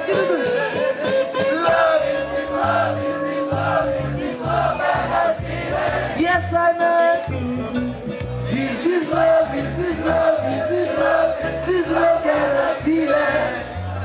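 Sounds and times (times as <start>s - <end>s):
crowd noise: 0.0s - 14.0s
live reggae band playing: 0.0s - 14.0s.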